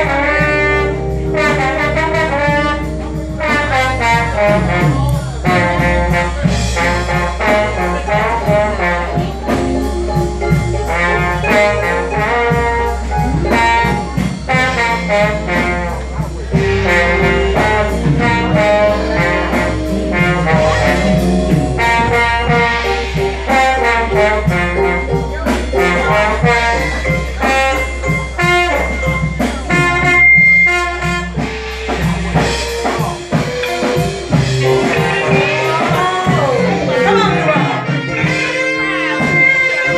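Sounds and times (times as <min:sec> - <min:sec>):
live jazz blues band: 0:00.0 - 0:39.9
trombone and trumpet melody: 0:00.0 - 0:39.9.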